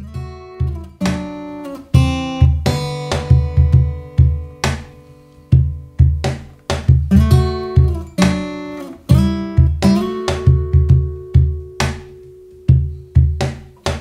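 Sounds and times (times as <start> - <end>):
guitar strumming chords: 0.0 - 14.0.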